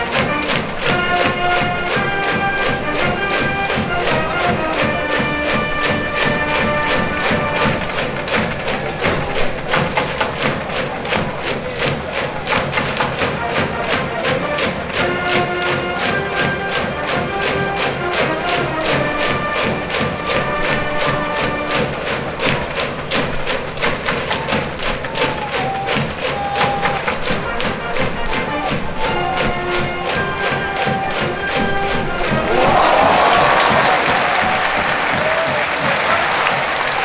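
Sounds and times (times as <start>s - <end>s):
brass band playing: 0.0s - 37.0s
crowd cheering: 0.0s - 37.0s
fast drum beat: 0.0s - 37.0s.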